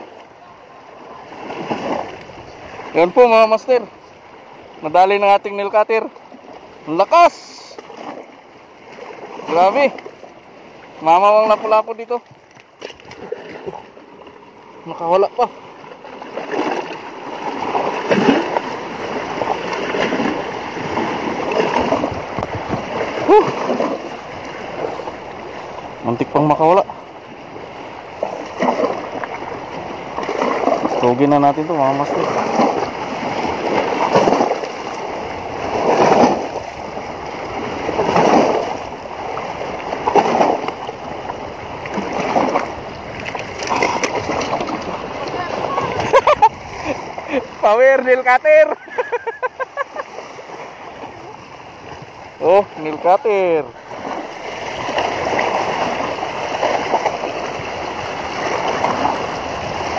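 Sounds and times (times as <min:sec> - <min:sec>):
water splashing among rocks: 0:07.1 - 0:25.5, 0:28.2 - 0:48.7, 0:50.0 - 0:59.9.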